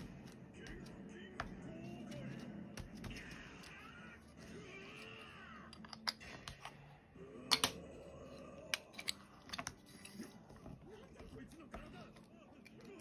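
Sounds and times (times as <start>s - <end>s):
faint background soundtrack: 0.0s - 13.0s.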